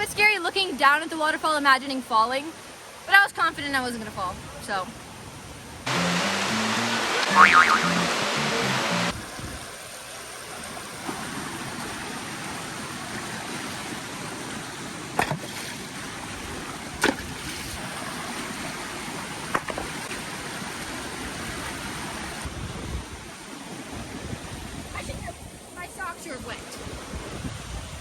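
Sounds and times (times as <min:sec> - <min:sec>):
rushing water of falls and stream: 0:00.9 - 0:28.0.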